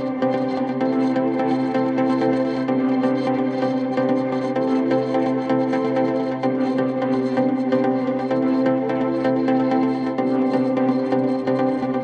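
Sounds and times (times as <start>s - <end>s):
instrumental music with light beat: 0.0s - 12.0s.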